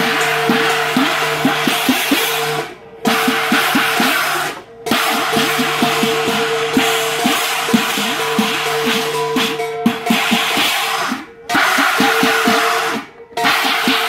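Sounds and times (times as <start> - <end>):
drum gongs and cymbals playing: 0.0 - 14.0.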